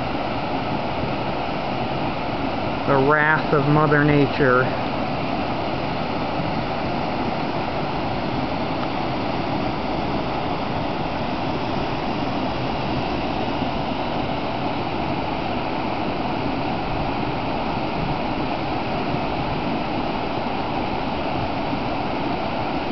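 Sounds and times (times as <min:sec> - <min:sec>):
river rushing over rocks: 0:00.0 - 0:22.9.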